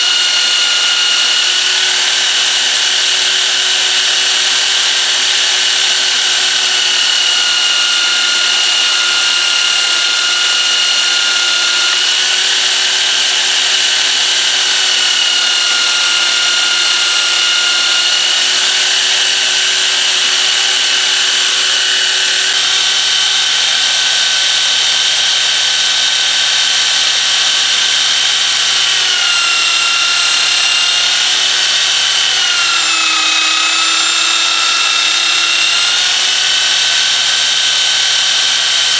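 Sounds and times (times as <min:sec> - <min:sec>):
belt sander grinding metal: 0:00.0 - 0:38.9
belt sander whining: 0:00.0 - 0:38.9.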